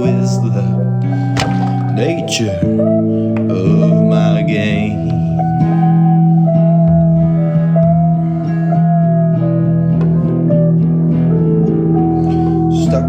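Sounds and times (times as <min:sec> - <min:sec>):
guitar melody with slides: 0:00.0 - 0:13.0
steady bass note: 0:00.0 - 0:13.0.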